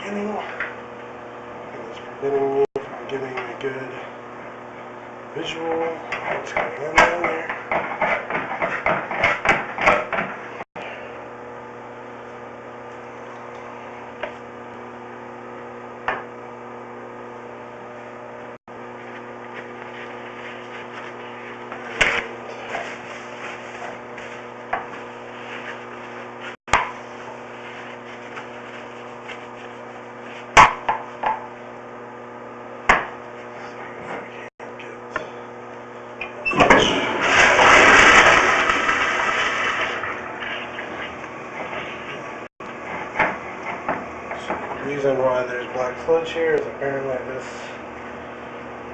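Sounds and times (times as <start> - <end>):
steady hum: 0.0 - 48.9.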